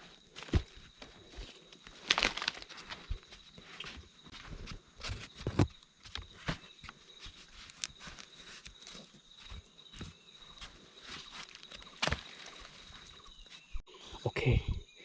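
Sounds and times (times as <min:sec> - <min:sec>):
rustling in undergrowth: 0:00.0 - 0:13.8
high insect drone: 0:00.0 - 0:15.0.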